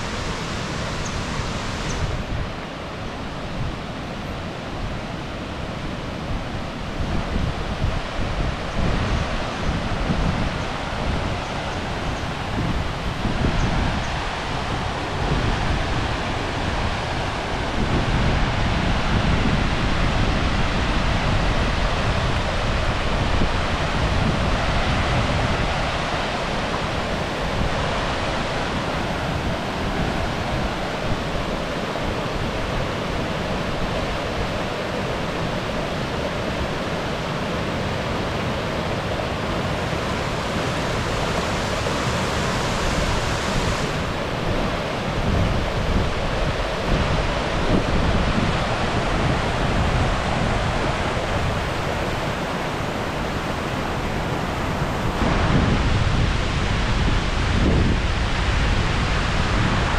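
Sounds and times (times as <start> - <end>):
waterfall rushing: 0.0 - 5.8, 7.6 - 59.9
wind buffeting microphone: 5.8 - 38.3, 39.2 - 59.9.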